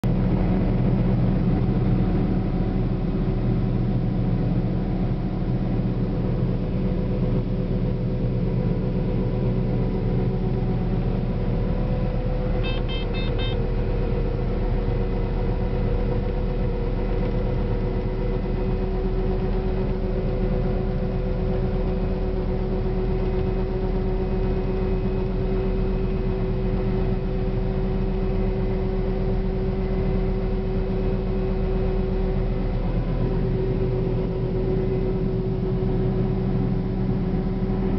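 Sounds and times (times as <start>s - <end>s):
combine harvester engine drone: 0.0s - 37.9s.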